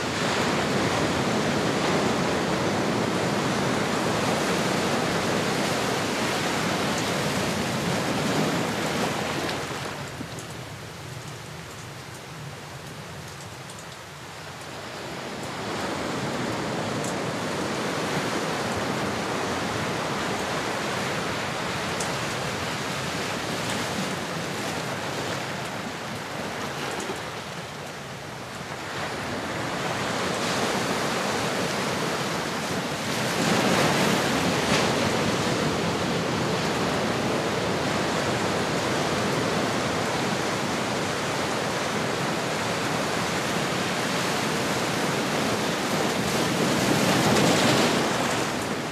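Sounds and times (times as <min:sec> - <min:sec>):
ocean waves washing: 0:00.0 - 0:11.6, 0:14.1 - 0:48.9.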